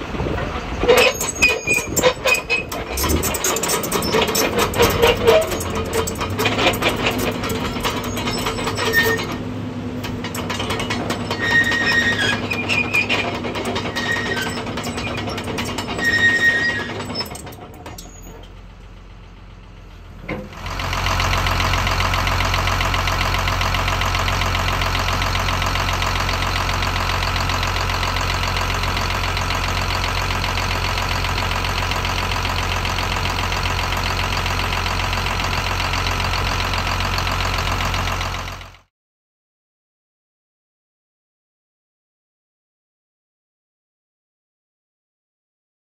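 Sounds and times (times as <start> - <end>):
excavator diesel engine idling: 0.0 - 38.9.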